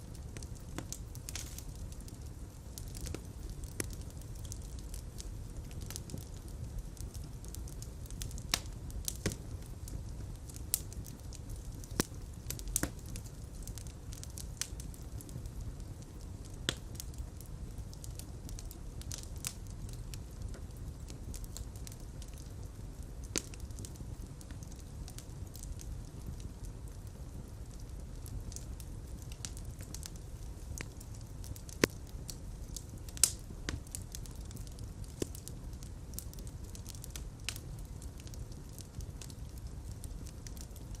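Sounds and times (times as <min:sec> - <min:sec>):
fire crackling in fireplace: 0:00.0 - 0:41.0.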